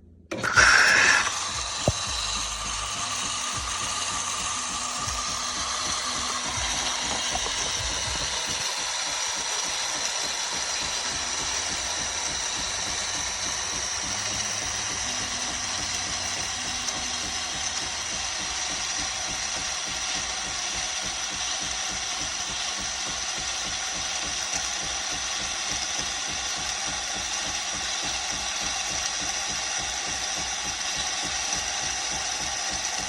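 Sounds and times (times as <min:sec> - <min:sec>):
high-pitched whine: 0:00.0 - 0:31.4
espresso machine humming: 0:00.0 - 0:33.0.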